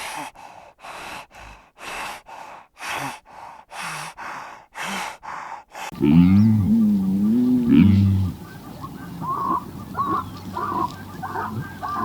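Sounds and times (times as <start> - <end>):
animal breathing heavily: 0.0 - 12.0.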